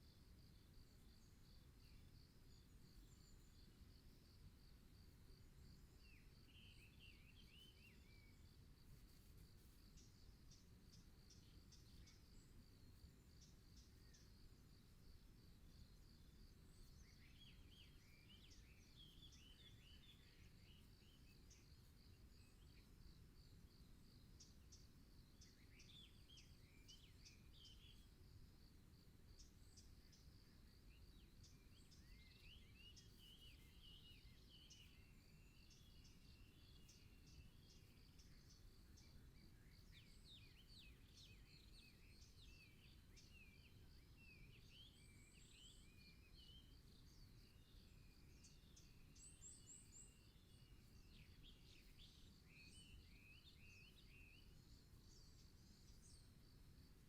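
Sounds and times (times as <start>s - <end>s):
insect trill: 0.0s - 57.0s
small birds chirping: 0.0s - 57.0s.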